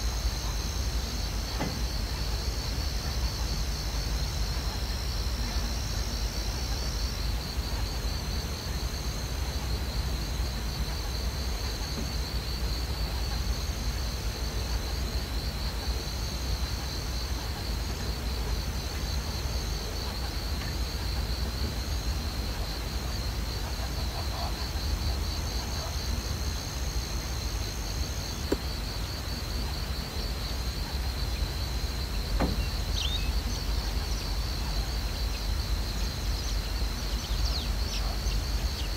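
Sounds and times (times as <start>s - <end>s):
higher insect trill: 0.0s - 38.9s
insects trilling: 0.0s - 38.9s.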